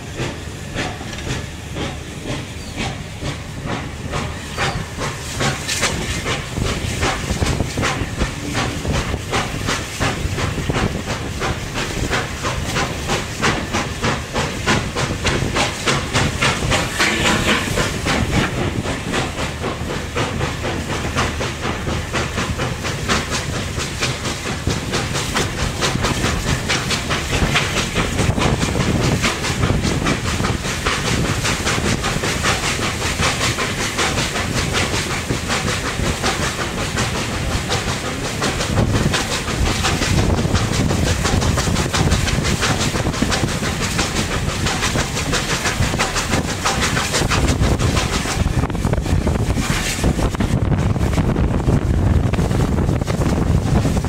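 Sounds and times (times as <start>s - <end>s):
steam locomotive hissing and chuffing: 0.0s - 54.0s
train wheels clacking on rails: 0.0s - 54.0s.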